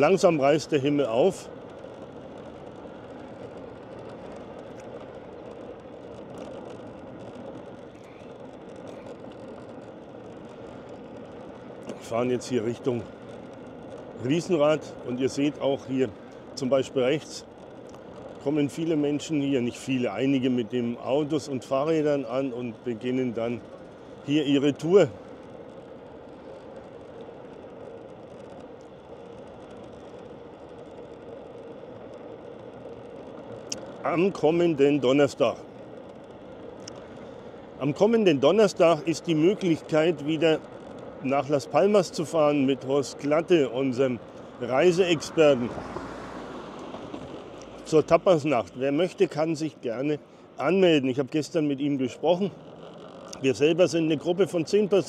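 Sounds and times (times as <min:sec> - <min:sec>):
car driving road noise: 0:00.0 - 0:55.0
faint steady hum: 0:00.0 - 0:55.0.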